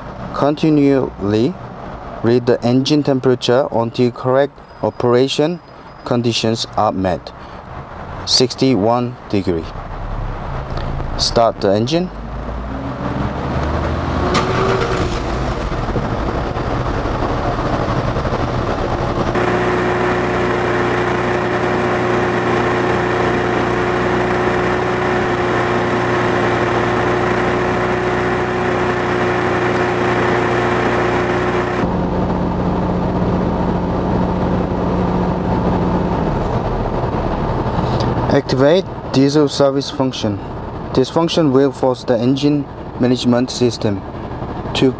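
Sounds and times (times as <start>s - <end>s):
diesel engine starting and idling: 0.0s - 44.9s.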